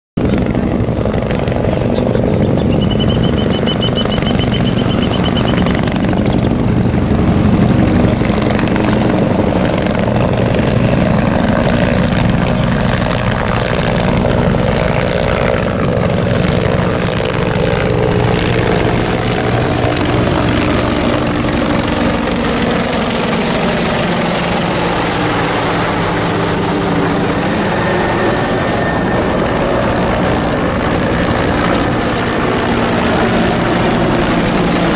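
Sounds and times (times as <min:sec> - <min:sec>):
helicopters flying overhead: 0:00.2 - 0:34.9.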